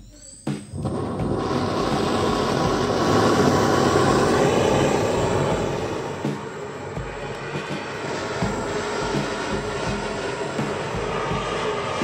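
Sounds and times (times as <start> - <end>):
torch flame roaring: 0.7 - 12.0.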